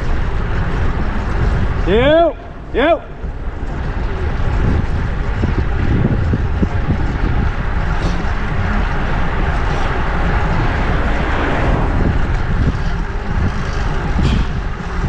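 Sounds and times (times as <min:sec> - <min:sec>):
road traffic rumble: 0:00.0 - 0:15.0
wind buffeting microphone: 0:00.0 - 0:15.0.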